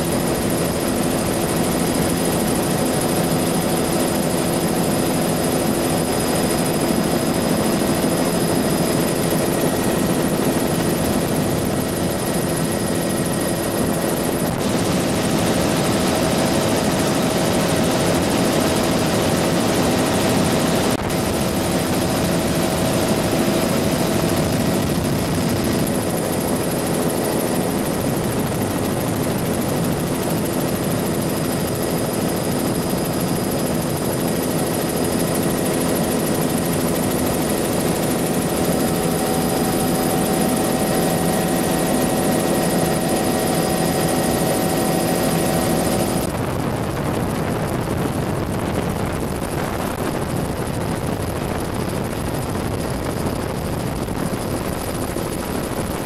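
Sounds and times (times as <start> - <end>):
helicopter rotor and turbine noise: 0.0 - 56.0
high turbine whine: 0.0 - 56.0
wind rush: 7.0 - 56.0.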